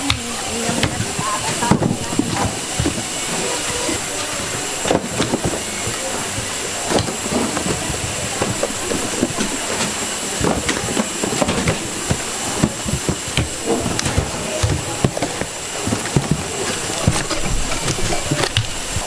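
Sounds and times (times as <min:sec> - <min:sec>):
coconuts knocking into cardboard boxes: 0:00.0 - 0:19.0
steady hiss: 0:00.0 - 0:19.0
cardboard shifting: 0:00.4 - 0:19.0.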